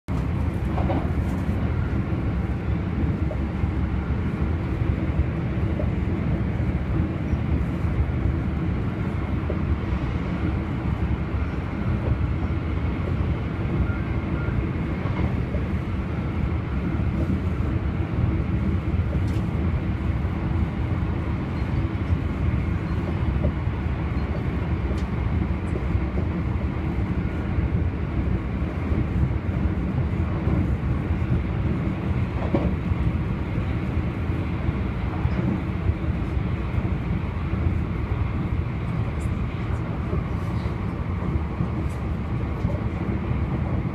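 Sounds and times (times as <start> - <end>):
train cabin rumble: 0.1 - 43.9.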